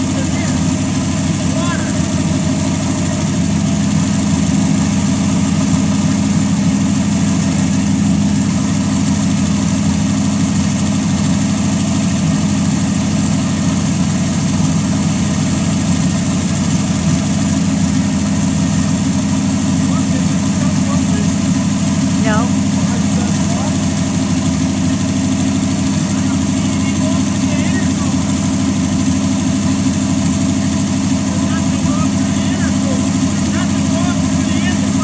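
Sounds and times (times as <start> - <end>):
racing engine idling: 0.0 - 35.0.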